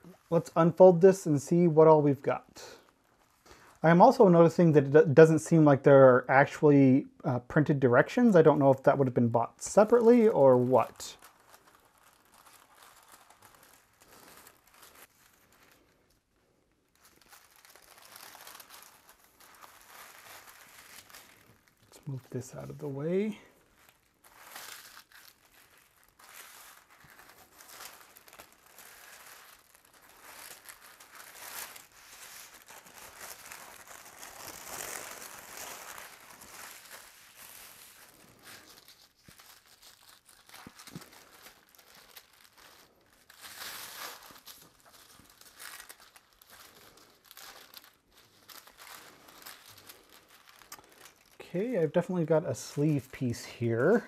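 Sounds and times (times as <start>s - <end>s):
heavy paper rustling: 9.6s - 16.0s, 17.0s - 54.0s.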